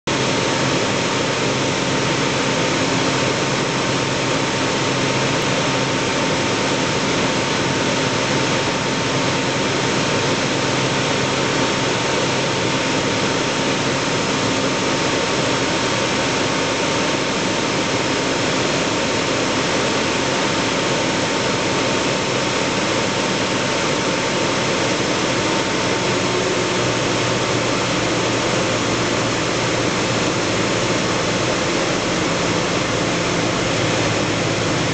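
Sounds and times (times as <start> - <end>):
airplane engine and propeller drone: 0.1 - 34.9
rush of air: 0.1 - 34.9.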